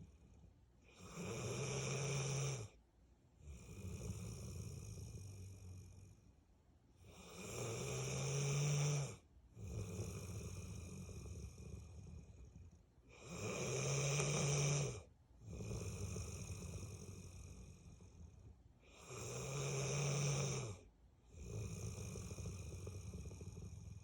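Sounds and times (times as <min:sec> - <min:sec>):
dog snoring: 0:00.0 - 0:02.8, 0:03.4 - 0:06.3, 0:07.0 - 0:24.0.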